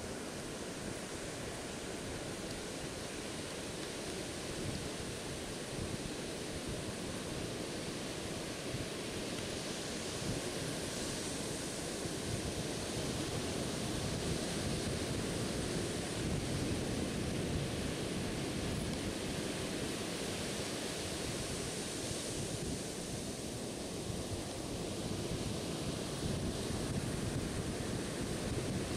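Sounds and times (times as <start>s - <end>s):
waves breaking on a beach: 0.0s - 28.9s
wind on the microphone: 4.4s - 28.9s.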